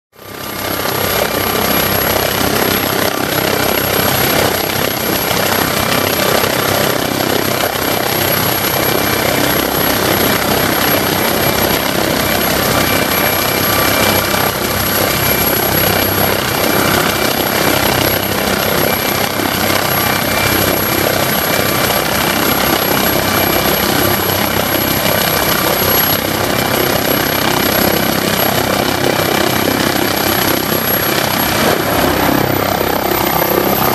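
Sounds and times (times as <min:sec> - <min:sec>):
helicopter rotor and engine noise: 0:00.2 - 0:33.9
high turbine whine: 0:00.2 - 0:33.9.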